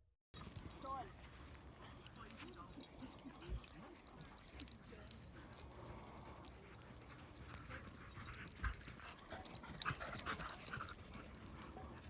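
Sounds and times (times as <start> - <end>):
dog panting and whimpering: 1.8 - 12.0.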